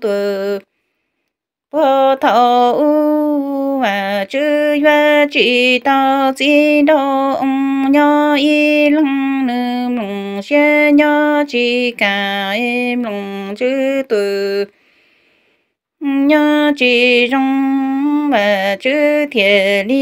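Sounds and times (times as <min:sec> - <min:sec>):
woman singing unaccompanied: 0:00.0 - 0:00.7, 0:01.7 - 0:14.8, 0:16.0 - 0:20.0.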